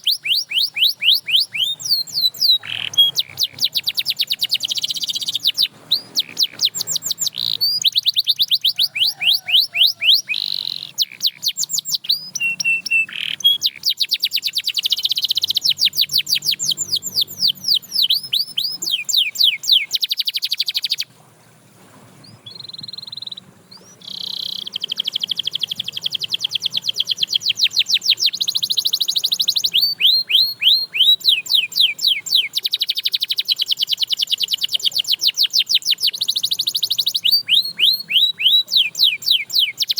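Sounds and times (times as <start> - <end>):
canary singing fast trills: 0.0 - 21.1, 22.2 - 39.9.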